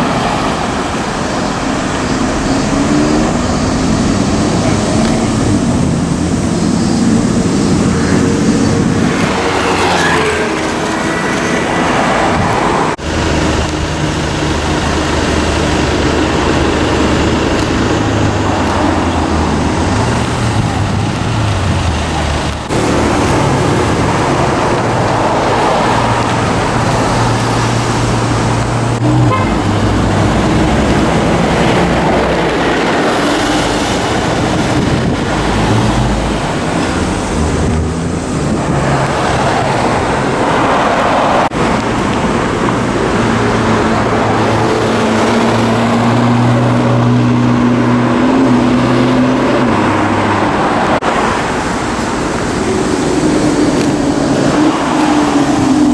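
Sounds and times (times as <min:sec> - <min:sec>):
car engines in slow traffic: 0:00.0 - 0:55.9
road noise: 0:00.0 - 0:55.9.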